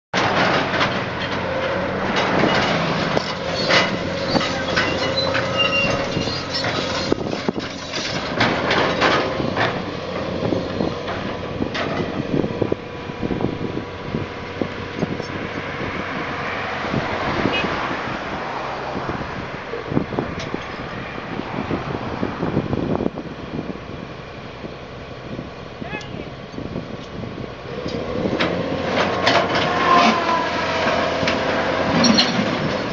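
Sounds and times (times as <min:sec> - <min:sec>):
excavator engine under load: 0:00.2 - 0:32.9.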